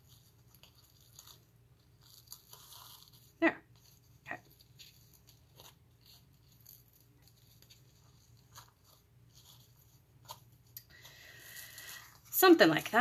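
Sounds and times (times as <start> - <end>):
ribbon and card rustling: 0.0 - 13.0.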